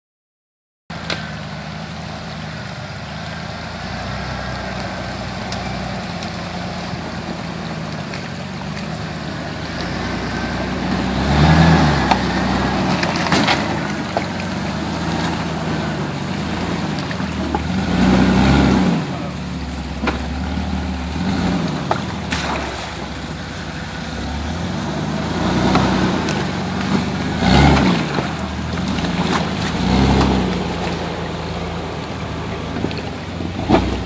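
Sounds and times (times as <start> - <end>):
engine running at low speed: 0.9 - 34.0.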